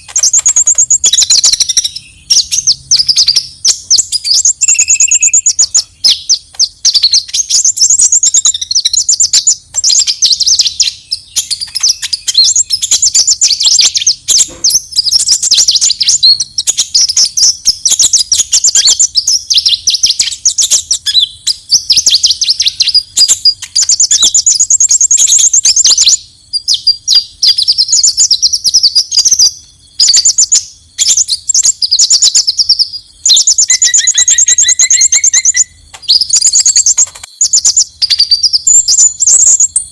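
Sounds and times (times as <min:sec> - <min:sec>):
bird chittering trills: 0:00.0 - 0:39.9.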